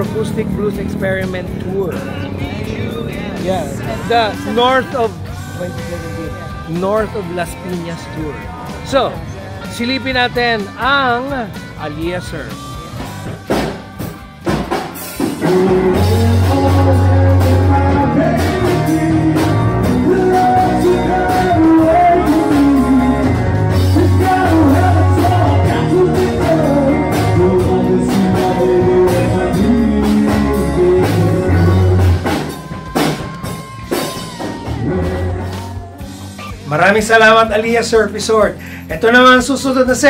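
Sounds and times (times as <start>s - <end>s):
rock music: 0.0s - 40.0s.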